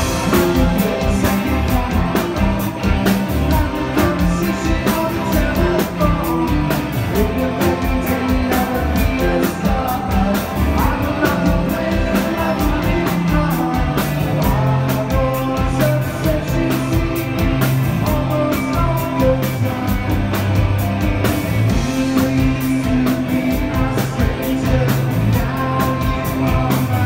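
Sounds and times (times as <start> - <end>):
person singing: 0.0 - 20.4, 21.7 - 27.0
bass line: 0.0 - 27.0
drum beat: 0.0 - 27.0
electric guitar: 0.0 - 27.0.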